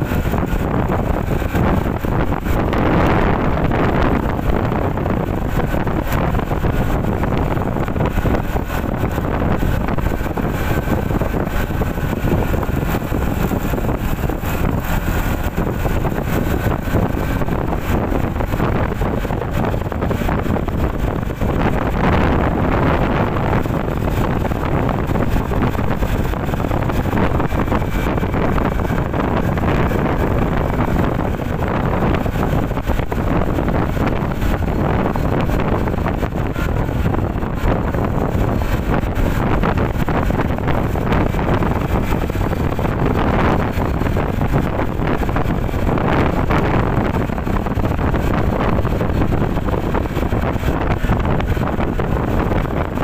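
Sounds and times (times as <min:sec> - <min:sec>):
road noise: 0:00.0 - 0:53.0
scooter engine: 0:00.0 - 0:53.0
wind rushing over microphone: 0:00.0 - 0:53.0.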